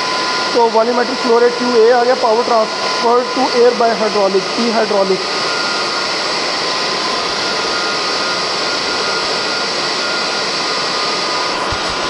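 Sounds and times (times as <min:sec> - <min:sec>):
compressor air rush and whine: 0:00.0 - 0:12.0.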